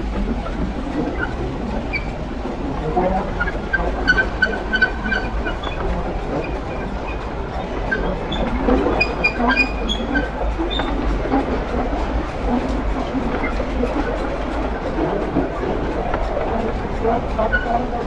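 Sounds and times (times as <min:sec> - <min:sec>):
steam locomotive rumble: 0:00.0 - 0:18.0.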